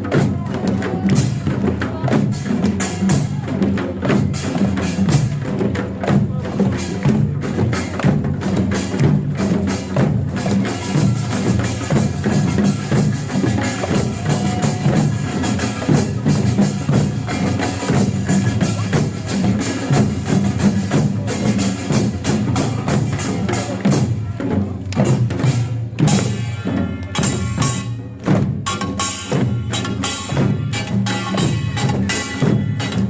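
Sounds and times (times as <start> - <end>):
percussion band with gongs and drums: 0.0 - 33.0.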